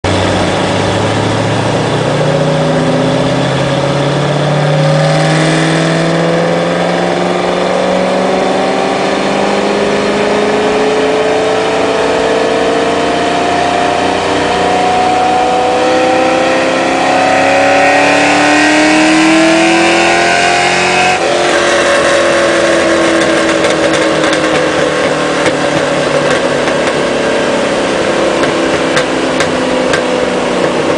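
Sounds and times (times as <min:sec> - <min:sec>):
car engine revving at full throttle: 0:00.0 - 0:30.9.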